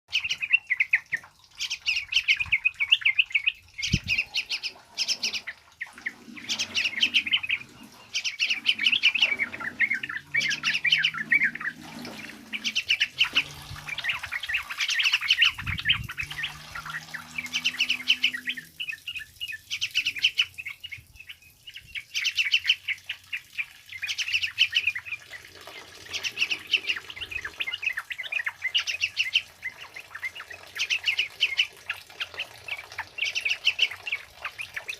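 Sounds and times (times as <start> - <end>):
bird singing chattering song: 0.1 - 34.9.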